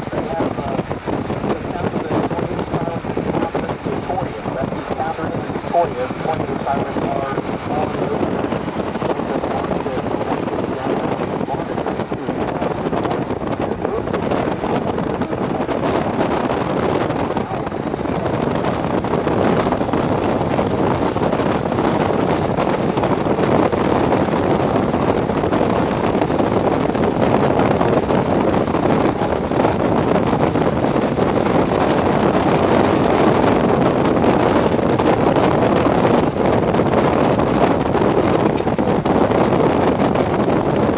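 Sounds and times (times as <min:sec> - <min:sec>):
rushing wind: 0:00.0 - 0:40.9.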